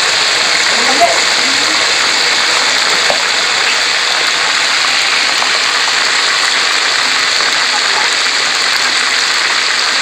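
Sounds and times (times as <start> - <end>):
oil popping: 0.0 - 10.0
oil sizzling: 0.0 - 10.0.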